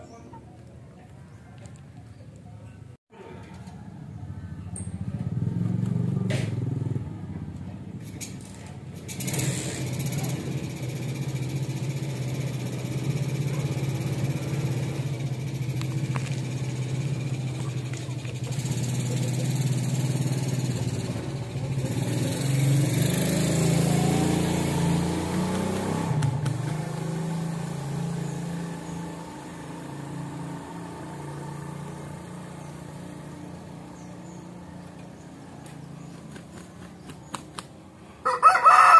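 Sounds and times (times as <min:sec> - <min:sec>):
vehicle engine humming: 0:00.0 - 0:38.2.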